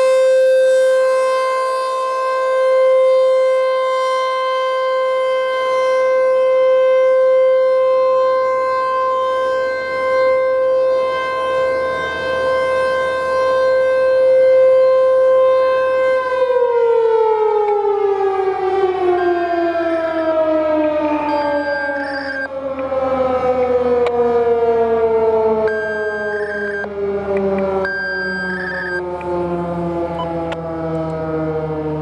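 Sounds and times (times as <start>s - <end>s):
warning siren winding down: 0.0s - 32.0s.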